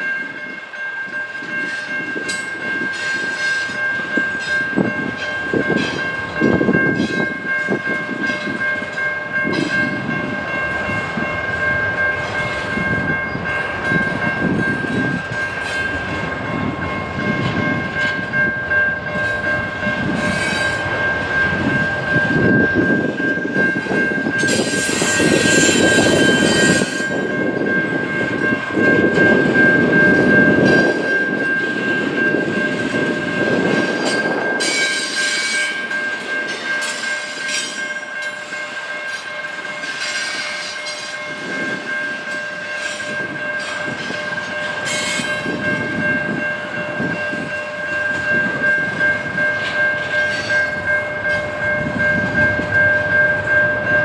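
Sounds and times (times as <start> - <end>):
train wheels rumbling on rails: 0.0 - 54.0
rhythmic clickety-clack: 0.2 - 54.0.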